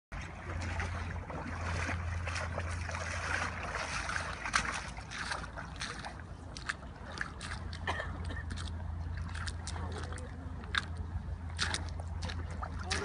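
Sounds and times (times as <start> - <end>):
small water splashes: 0.1 - 13.0
river water rushing over gravel: 0.8 - 13.0.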